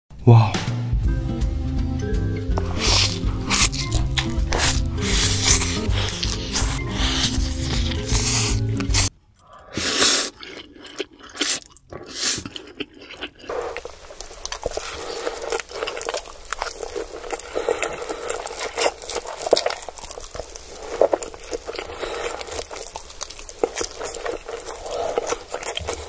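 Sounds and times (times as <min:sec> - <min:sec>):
noodle slurping: 0:02.6 - 0:26.0
wet chewing: 0:02.6 - 0:26.0.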